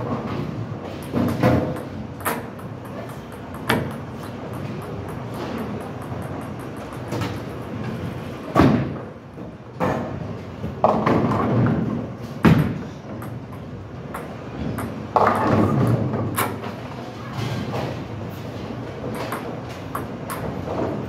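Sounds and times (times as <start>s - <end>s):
bowling balls rolling: 0.0s - 21.0s.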